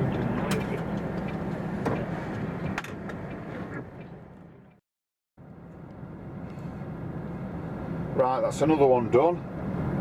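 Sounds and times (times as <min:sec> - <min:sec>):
low vehicle hum: 0:00.0 - 0:04.8, 0:05.4 - 0:10.0.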